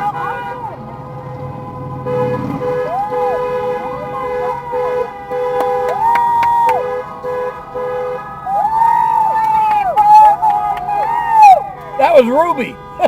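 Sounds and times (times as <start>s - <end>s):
car horn honking: 0.0s - 13.0s
sirens wailing: 0.0s - 13.0s.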